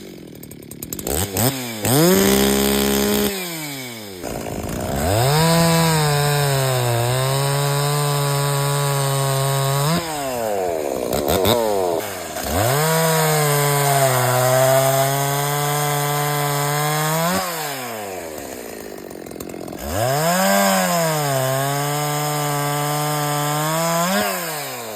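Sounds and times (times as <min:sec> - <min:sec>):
chainsaw revving: 0:00.0 - 0:24.9.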